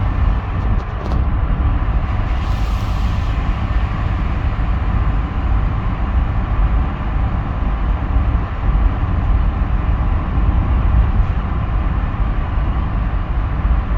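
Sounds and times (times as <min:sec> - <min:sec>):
truck engine and road noise: 0:00.0 - 0:13.9.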